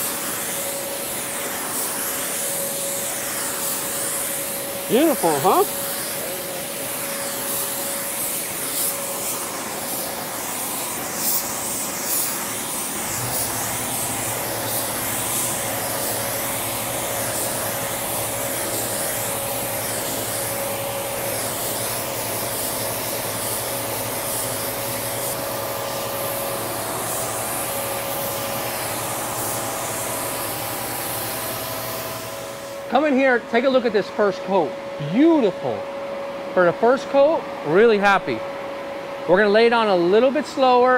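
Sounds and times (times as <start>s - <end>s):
spray gun hissing: 0.0s - 32.9s
blower fans droning: 0.0s - 40.9s.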